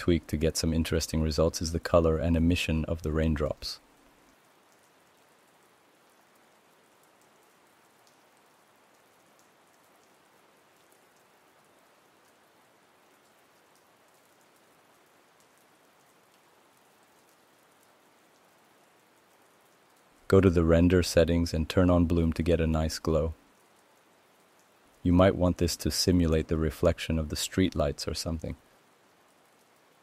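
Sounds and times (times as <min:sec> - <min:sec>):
light raindrop ticks: 0:00.0 - 0:30.0
rain hissing: 0:00.0 - 0:30.0.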